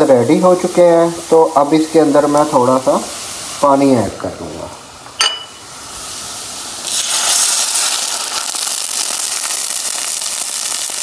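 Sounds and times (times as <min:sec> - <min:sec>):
water sizzling in hot oil: 0:00.0 - 0:04.1, 0:04.8 - 0:11.0.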